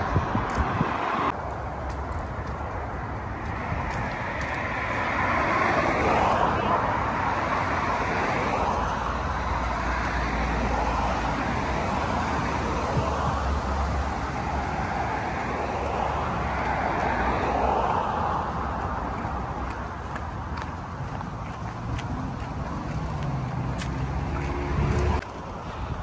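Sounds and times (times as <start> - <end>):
cars passing on road: 0.0 - 26.0.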